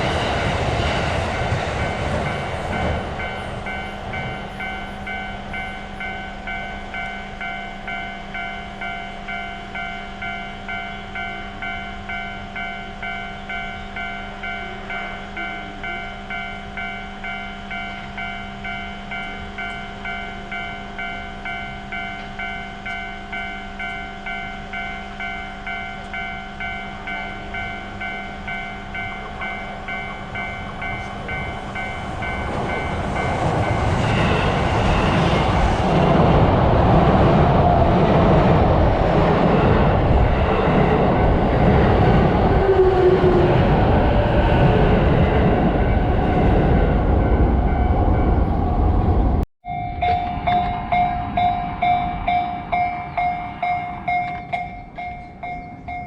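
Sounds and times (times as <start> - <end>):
low train rumble: 0.0 - 56.0
railroad crossing bell ringing: 0.0 - 56.0.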